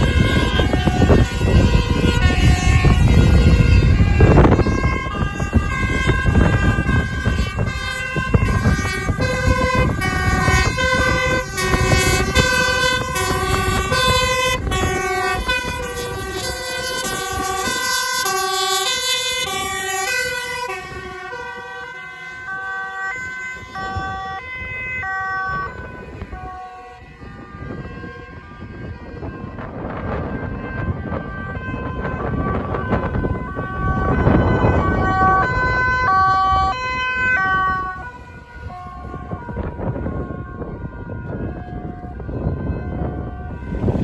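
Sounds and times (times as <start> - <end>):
engine and tyre rumble: 0.0 - 44.0
fire engine two-tone sirens: 0.0 - 44.0.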